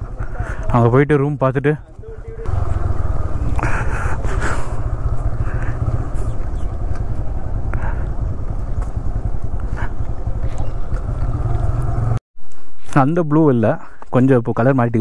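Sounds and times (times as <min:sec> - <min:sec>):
motorcycle engine rumble: 0:00.0 - 0:12.2.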